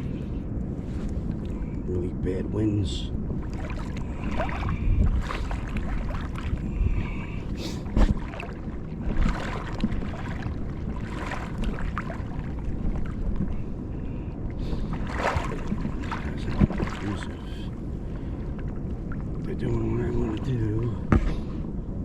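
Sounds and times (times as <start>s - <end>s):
water lapping at shore: 0.0s - 21.8s
wind buffeting microphone: 0.0s - 22.0s.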